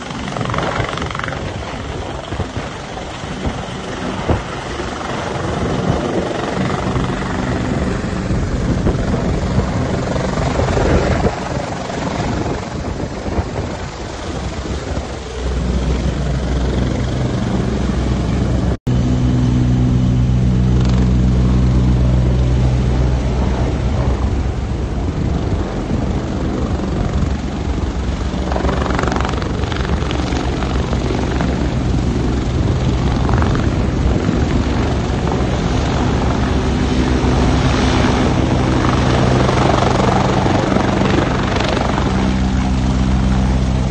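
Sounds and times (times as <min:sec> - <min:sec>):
helicopter rotor beat: 0:00.0 - 0:43.9
turbine whine: 0:00.0 - 0:43.9.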